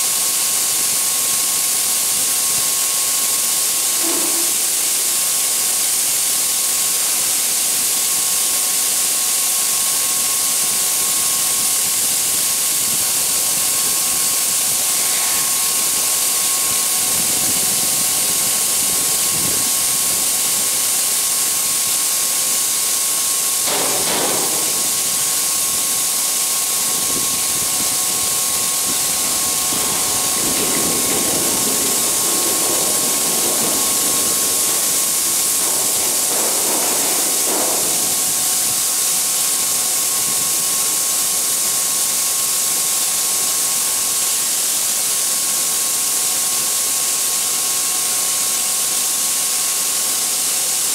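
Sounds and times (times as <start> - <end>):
grain pouring hiss: 0.0 - 50.9.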